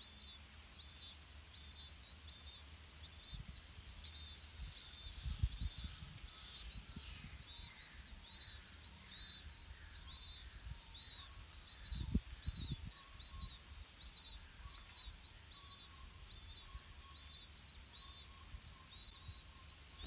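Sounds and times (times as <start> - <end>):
lower falling bird notes: 0.0 - 20.0
short high bird chirps: 0.0 - 20.0.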